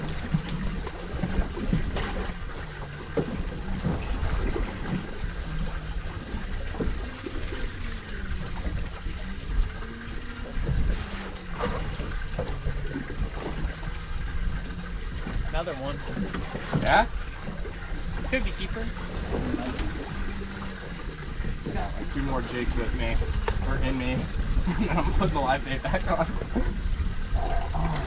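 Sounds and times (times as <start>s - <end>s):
low steady hum: 0.0s - 28.0s
water splashing against boat hull: 0.0s - 28.0s.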